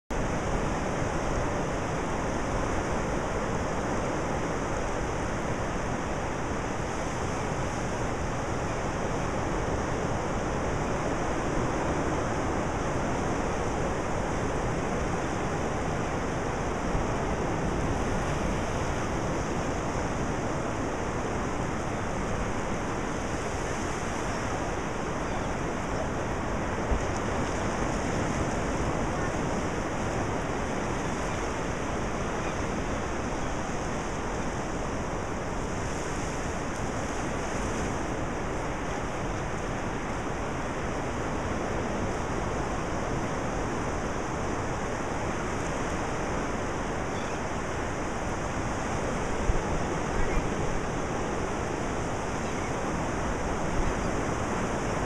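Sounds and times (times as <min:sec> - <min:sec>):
small waves breaking on beach: 0:00.1 - 0:55.0.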